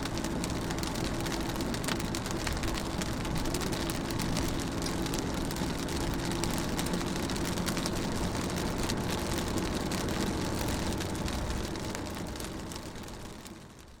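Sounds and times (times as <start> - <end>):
rain on car window: 0.0 - 14.0.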